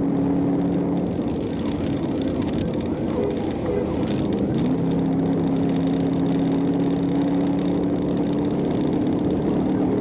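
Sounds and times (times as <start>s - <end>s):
car engine running: 0.0s - 10.0s
road noise: 0.0s - 10.0s.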